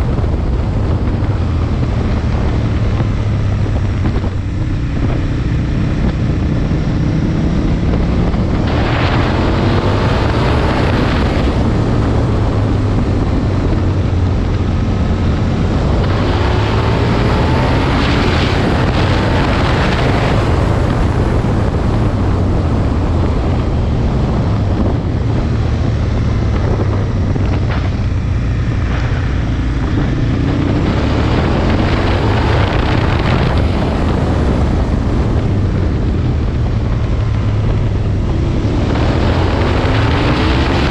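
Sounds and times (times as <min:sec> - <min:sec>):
motorcycle engine accelerating: 0:00.0 - 0:40.9
wind noise on microphone: 0:00.0 - 0:40.9.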